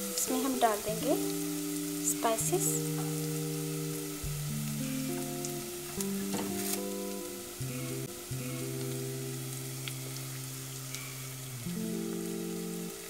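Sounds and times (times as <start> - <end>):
onion sizzling in hot oil: 0.0 - 13.0
slow background music: 0.0 - 13.0.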